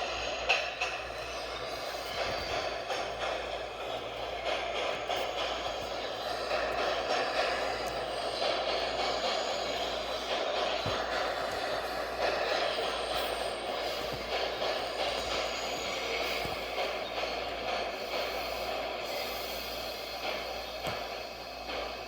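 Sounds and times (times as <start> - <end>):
subway train wheels on rails: 0.0 - 22.0.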